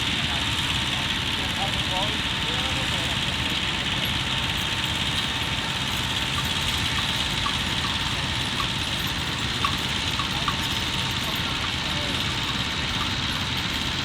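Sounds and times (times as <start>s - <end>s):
engine-like rumble: 0.2s - 14.0s.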